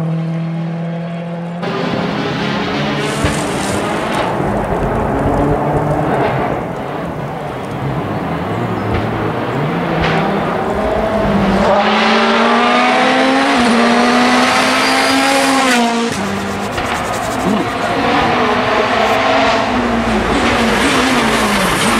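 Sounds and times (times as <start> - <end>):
rally car engine accelerating: 0.0 - 21.9.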